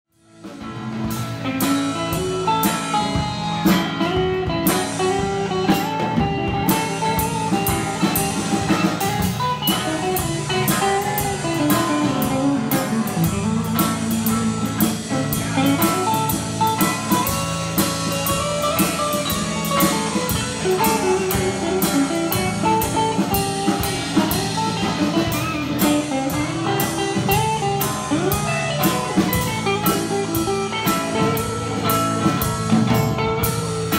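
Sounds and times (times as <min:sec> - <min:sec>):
drum kit steady beat: 0:00.2 - 0:33.9
electric guitars playing melody: 0:00.2 - 0:33.9.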